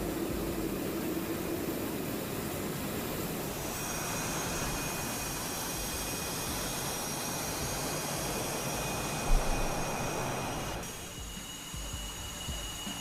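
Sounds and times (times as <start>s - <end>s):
high steady jet whine: 0.0s - 13.0s
jet engines rushing: 0.0s - 13.0s.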